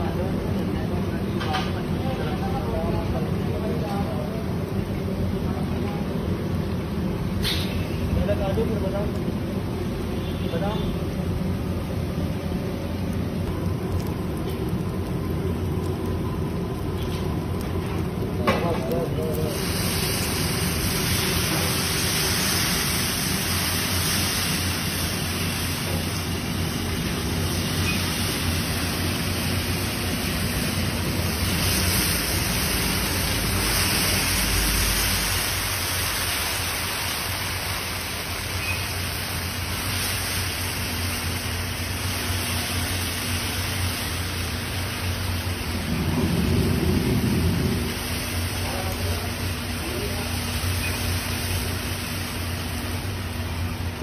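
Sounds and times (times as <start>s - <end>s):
batter sizzling in hot oil: 0.0s - 54.0s.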